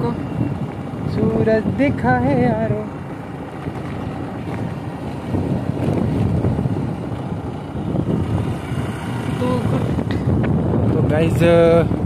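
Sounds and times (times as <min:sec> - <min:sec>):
scooter road and running noise: 0:00.0 - 0:12.0
wind buffeting microphone: 0:00.0 - 0:12.0.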